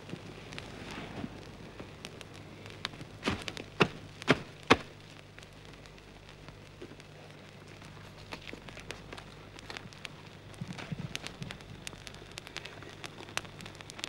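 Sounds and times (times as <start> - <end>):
low steady hum: 0.0 - 14.0
small fires crackling: 0.0 - 14.0.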